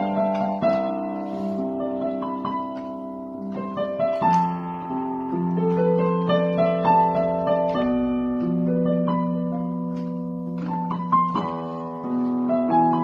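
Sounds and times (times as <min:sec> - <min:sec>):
slow piano keyboard melody: 0:00.0 - 0:13.0.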